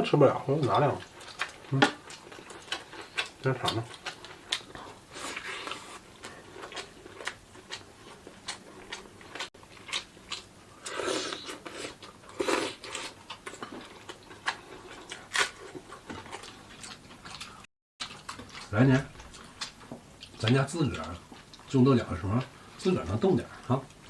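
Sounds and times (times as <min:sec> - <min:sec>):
people chewing: 0:00.1 - 0:24.0.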